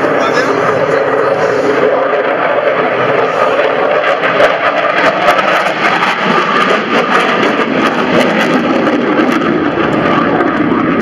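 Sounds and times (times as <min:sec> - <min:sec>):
fighter jet roaring: 0:00.0 - 0:11.0.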